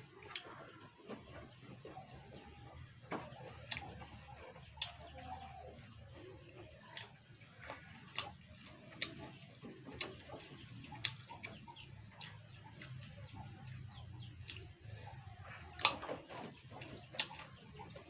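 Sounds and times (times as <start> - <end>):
chewing and crunching fruit: 0.0 - 18.0.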